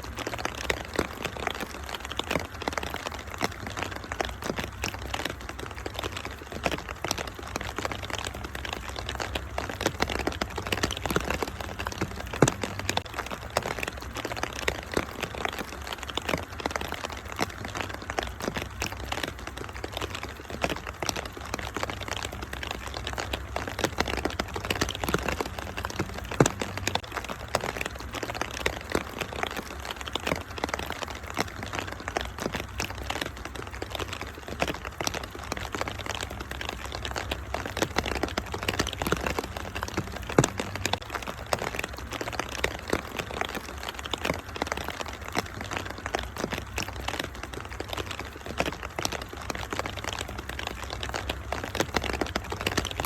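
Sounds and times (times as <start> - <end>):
rain hissing: 0.0 - 53.0
wood fire crackling: 0.0 - 53.0.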